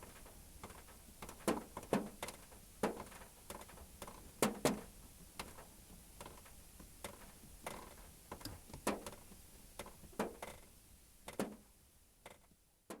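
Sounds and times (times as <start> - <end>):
raindrops tapping on car roof: 0.0 - 10.6, 11.2 - 13.0
light rain hiss: 0.0 - 13.0.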